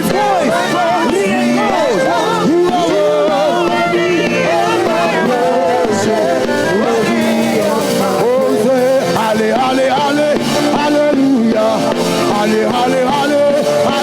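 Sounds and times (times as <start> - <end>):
live gospel music: 0.0 - 14.0.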